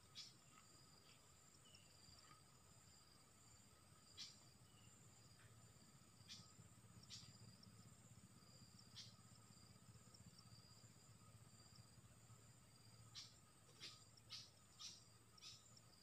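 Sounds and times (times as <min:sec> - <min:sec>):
insect chorus: 0:00.0 - 0:16.0
sharp insect chirps: 0:00.0 - 0:16.0.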